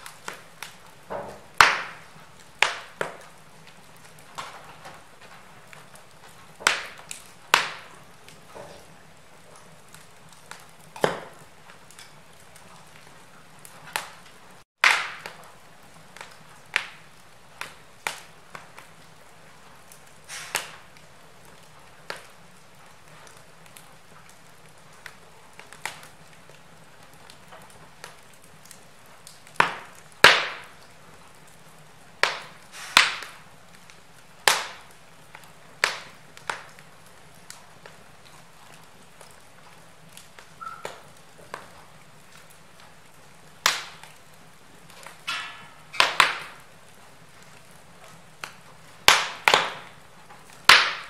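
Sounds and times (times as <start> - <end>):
faint steady hiss: 0.0 - 51.0
wood fire crackling and popping: 0.0 - 51.0.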